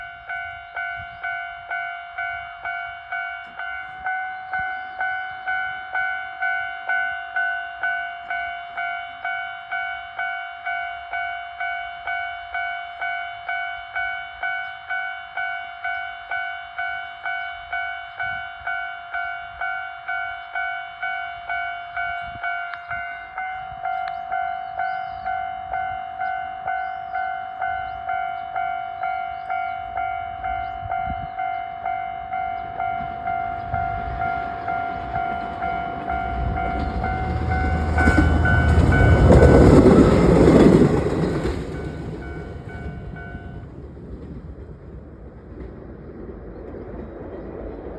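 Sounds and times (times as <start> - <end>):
railroad crossing bell ringing: 0.0 - 43.8.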